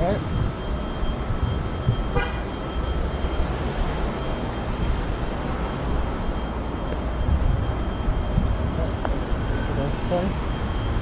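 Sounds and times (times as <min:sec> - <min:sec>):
high-pitched tone: 0:00.0 - 0:11.0
traffic rumble: 0:00.0 - 0:11.0.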